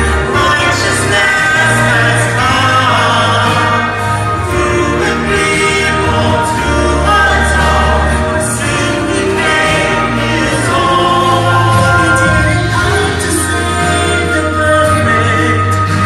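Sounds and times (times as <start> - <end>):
choir singing: 0.0 - 16.0
instrumental accompaniment: 0.0 - 16.0
sustained bass notes: 0.0 - 16.0.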